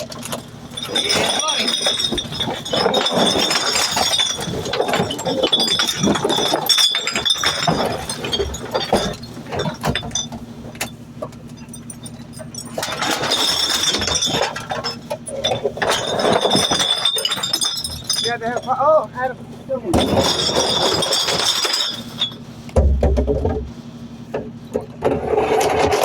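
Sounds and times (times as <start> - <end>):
glass bottles and trash clattering: 0.0 - 23.8, 24.7 - 26.0
garbage truck engine hum: 0.0 - 26.0.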